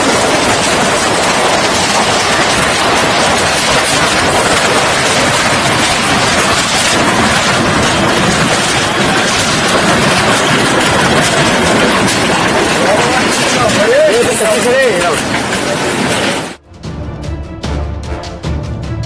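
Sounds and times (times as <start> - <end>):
floodwater rushing: 0.0 - 16.6.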